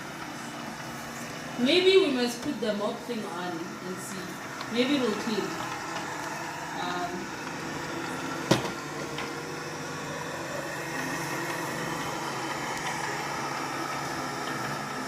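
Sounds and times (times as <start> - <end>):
robot vacuum cleaner running: 0.0 - 15.0.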